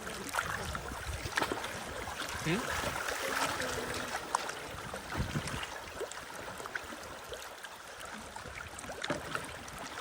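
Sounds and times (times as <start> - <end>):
river water rushing: 0.0 - 10.0
small splashes against raft: 0.0 - 10.0.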